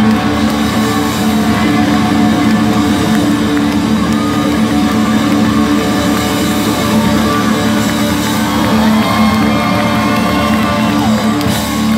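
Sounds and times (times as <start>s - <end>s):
live rock band playing loudly: 0.0s - 11.9s.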